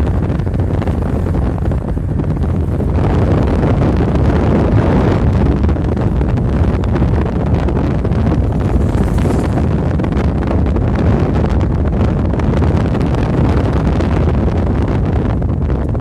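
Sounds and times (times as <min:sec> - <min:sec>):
road and wind noise in car: 0:00.0 - 0:16.0
wind buffeting microphone: 0:00.0 - 0:16.0.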